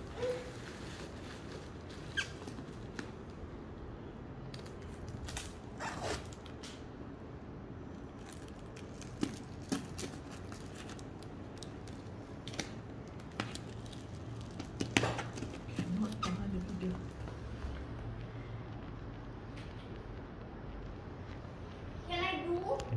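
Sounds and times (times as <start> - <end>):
bubble wrap crinkling: 0.0 - 7.0, 7.7 - 21.9.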